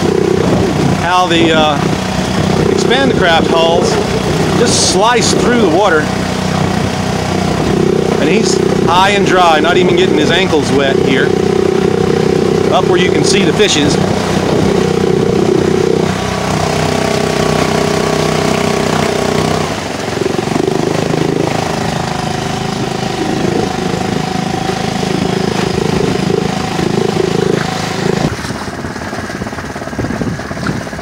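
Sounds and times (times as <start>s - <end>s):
noisy rush: 0.0s - 31.0s
outboard motor running: 0.0s - 31.0s.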